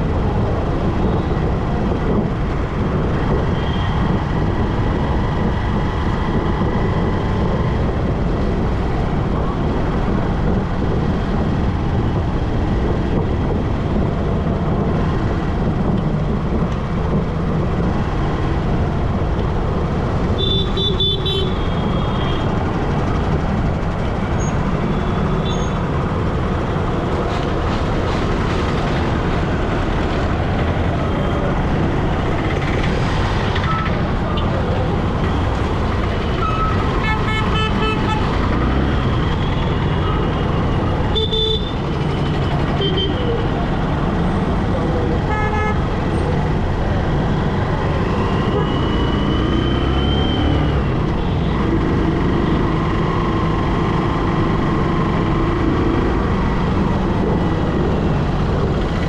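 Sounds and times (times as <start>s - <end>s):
city traffic noise: 0.0s - 59.0s.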